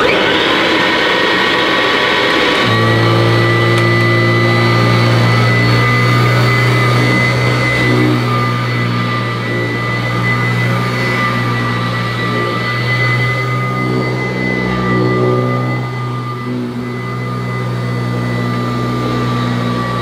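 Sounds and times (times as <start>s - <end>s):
vacuum cleaner deep hum: 0.0s - 20.0s
high-pitched motor tone: 2.4s - 20.0s.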